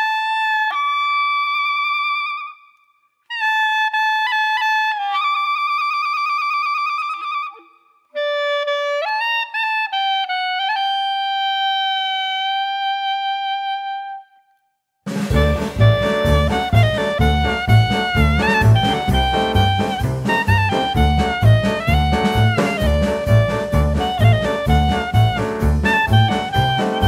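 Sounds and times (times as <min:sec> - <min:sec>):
solo wind instrument melody: 0:03.3 - 0:14.5, 0:15.3 - 0:27.0.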